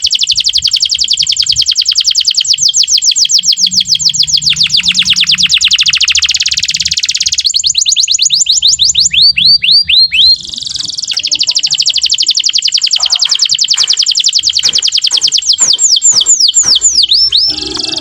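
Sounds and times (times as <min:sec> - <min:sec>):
canary singing trills: 0:00.0 - 0:18.0.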